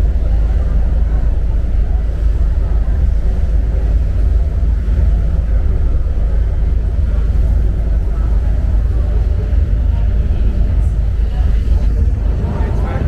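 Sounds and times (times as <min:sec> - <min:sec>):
ferry engine low rumble: 0:00.0 - 0:13.0.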